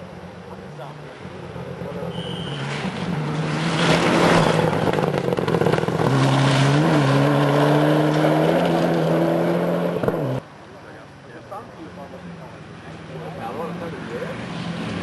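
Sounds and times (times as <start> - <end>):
rally cars passing at speed: 0.0 - 10.6, 12.2 - 15.0.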